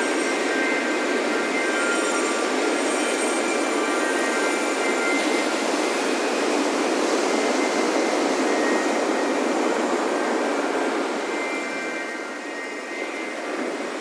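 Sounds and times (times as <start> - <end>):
ocean surf washing on beach: 0.0 - 14.0
wind chimes: 0.0 - 14.0.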